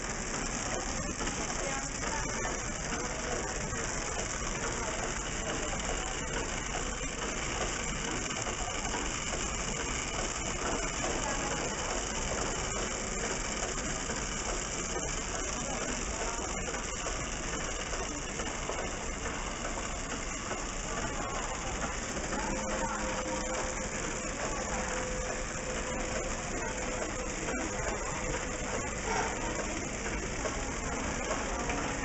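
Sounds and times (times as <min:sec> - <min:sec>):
wrapping machine clatter: 0:00.0 - 0:32.0.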